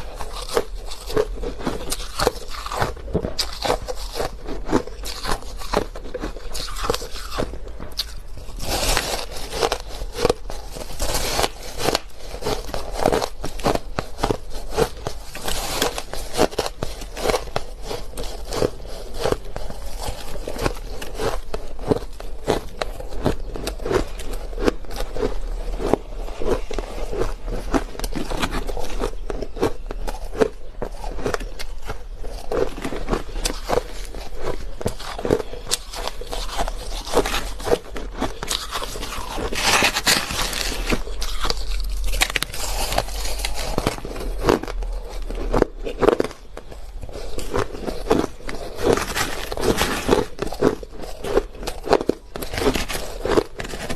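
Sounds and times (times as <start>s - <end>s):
crunching ice being chewed: 0.0s - 53.9s.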